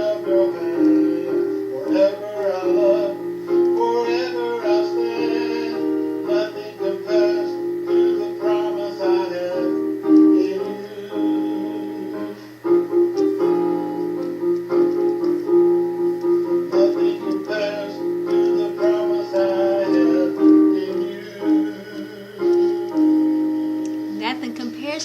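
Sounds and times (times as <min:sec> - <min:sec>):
person singing: 0:00.0 - 0:14.4, 0:16.4 - 0:24.2
electronic keyboard chords: 0:00.0 - 0:25.0.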